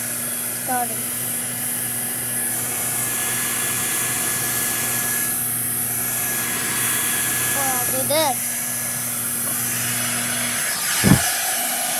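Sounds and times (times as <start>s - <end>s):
hair dryer running: 0.0s - 11.9s.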